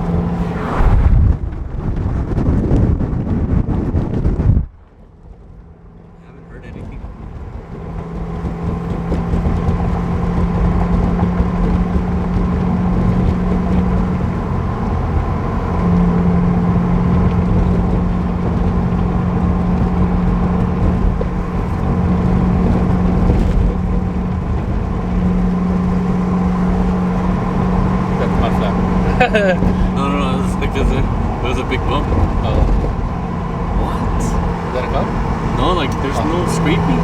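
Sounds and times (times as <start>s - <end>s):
car engine hum: 0.0s - 37.0s
road and tyre rumble: 0.0s - 37.0s.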